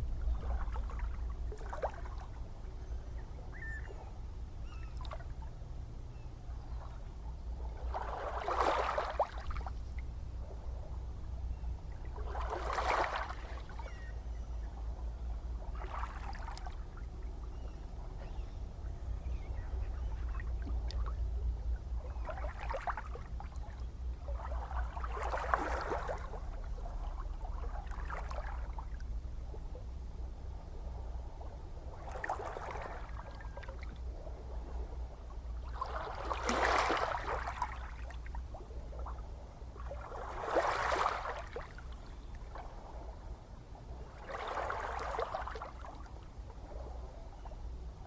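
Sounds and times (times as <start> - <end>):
small waves splashing: 0.0 - 5.6, 6.6 - 48.0
low rumble of surf: 0.0 - 48.0.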